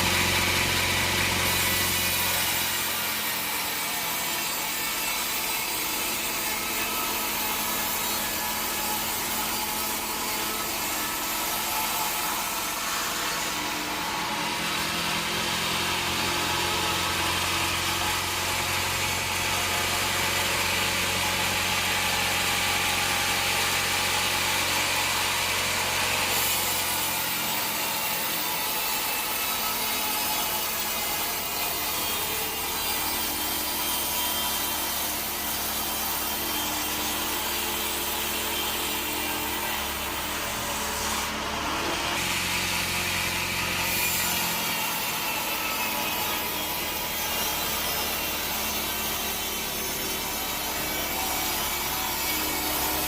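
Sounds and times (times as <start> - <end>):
bandsaw motor hum: 0.0 - 53.0.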